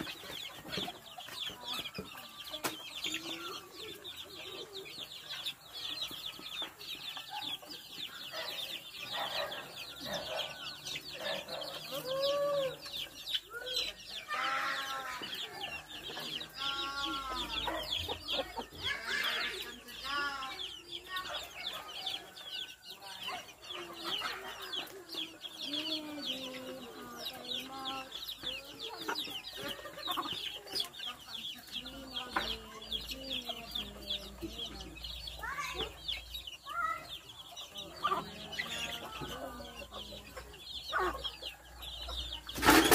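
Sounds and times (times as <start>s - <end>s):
chicks peeping: 0.0s - 42.9s.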